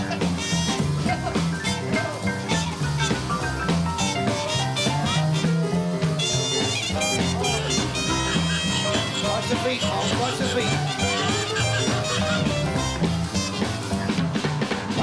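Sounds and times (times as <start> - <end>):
trumpet: 0.0 - 14.3
double bass: 0.0 - 15.0
drums: 0.0 - 15.0.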